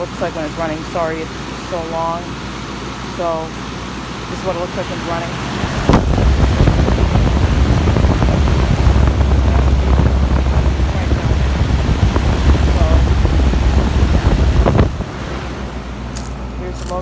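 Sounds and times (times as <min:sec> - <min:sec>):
air conditioner fan rushing air: 0:00.0 - 0:17.0
compressor low hum: 0:00.0 - 0:17.0.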